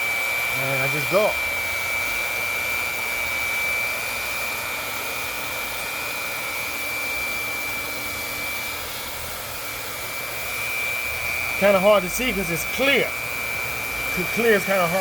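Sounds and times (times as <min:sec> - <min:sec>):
constant high whine: 0:00.0 - 0:15.0
heater blower rushing hiss: 0:00.0 - 0:15.0.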